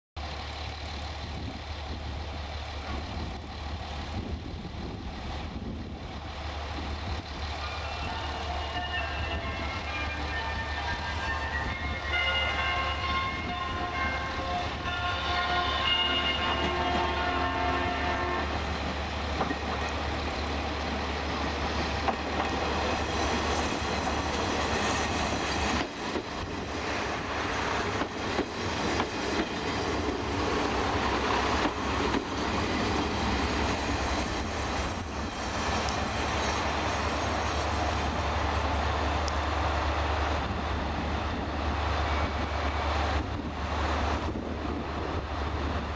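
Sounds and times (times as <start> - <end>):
diesel railcar engine running: 0.2 - 45.9.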